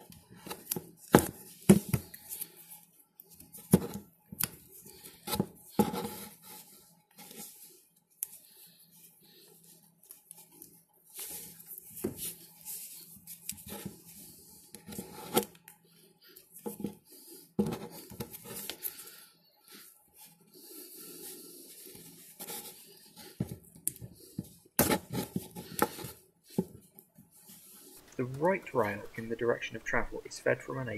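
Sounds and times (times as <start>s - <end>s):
rustling of tape and wire: 0.0s - 30.2s.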